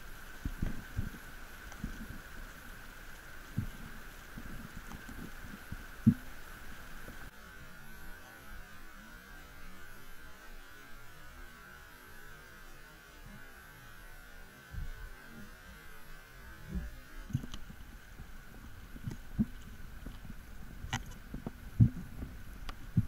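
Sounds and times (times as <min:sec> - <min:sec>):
steady underwater hum: 0:00.0 - 0:23.0.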